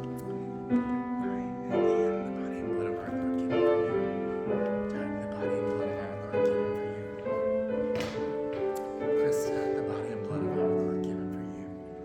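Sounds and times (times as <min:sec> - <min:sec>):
slow keyboard chords: 0:00.0 - 0:12.0.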